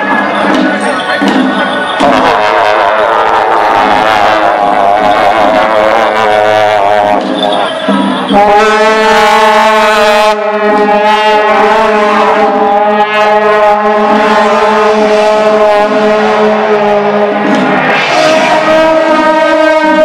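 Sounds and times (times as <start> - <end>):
brass horns droning: 0.0 - 20.0.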